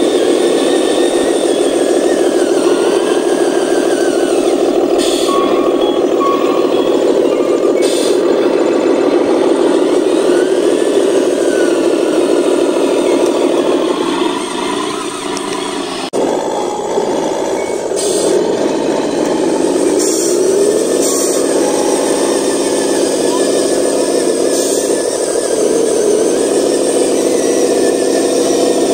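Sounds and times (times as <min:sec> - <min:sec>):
truck engine running: 0:00.0 - 0:28.9.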